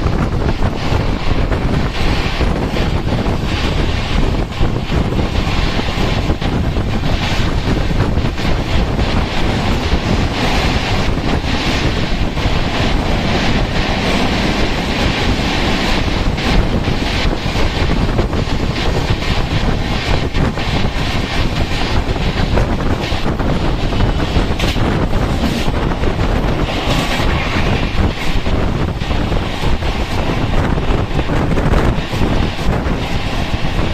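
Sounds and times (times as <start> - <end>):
train rumble: 0.0 - 33.9
train wheels clattering: 0.0 - 33.9
wind buffeting microphone: 0.0 - 33.9.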